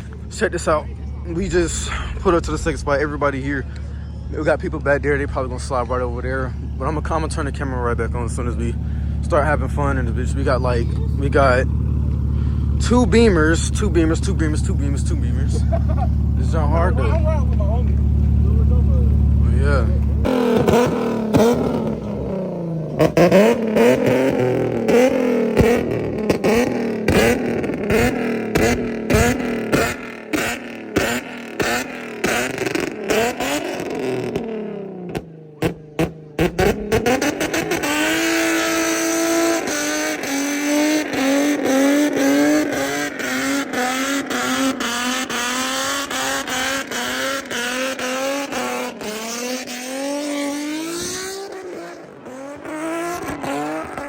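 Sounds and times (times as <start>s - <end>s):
car engine revving hard: 4.7s - 54.0s.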